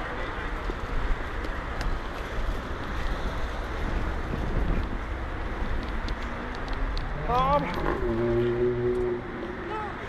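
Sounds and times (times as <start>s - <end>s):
heavy car traffic: 0.0s - 10.0s
wind buffeting microphone: 0.0s - 10.0s.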